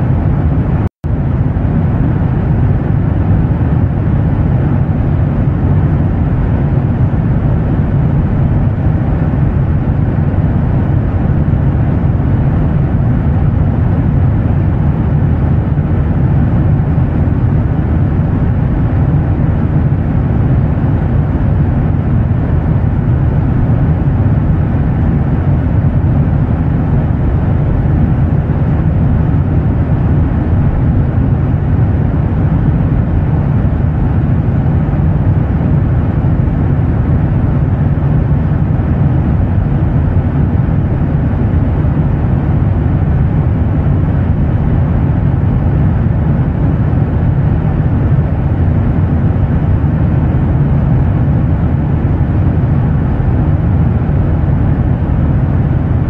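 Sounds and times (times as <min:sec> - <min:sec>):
jet engine drone: 0:00.0 - 0:56.0.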